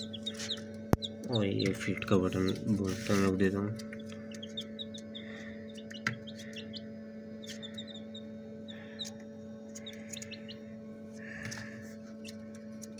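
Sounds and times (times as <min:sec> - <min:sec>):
chicks peeping: 0:00.0 - 0:12.9
incubator hum: 0:00.0 - 0:12.9.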